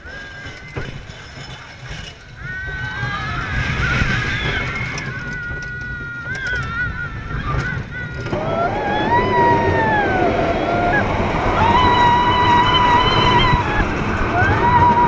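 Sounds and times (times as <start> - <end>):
roller coaster rumble and wind: 0.0 - 15.0
riders screaming: 2.4 - 15.0.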